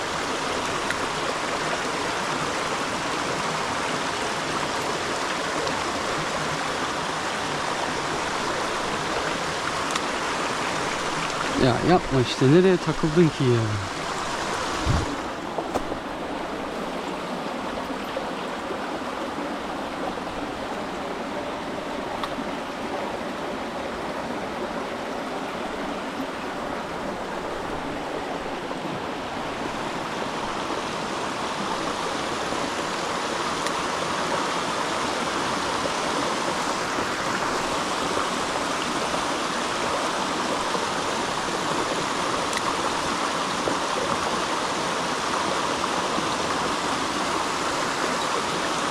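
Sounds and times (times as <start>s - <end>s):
creek water rushing: 0.0s - 48.9s.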